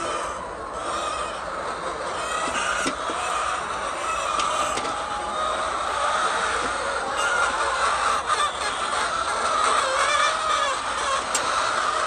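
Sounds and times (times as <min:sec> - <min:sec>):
flock of hens clucking: 0:00.0 - 0:12.0.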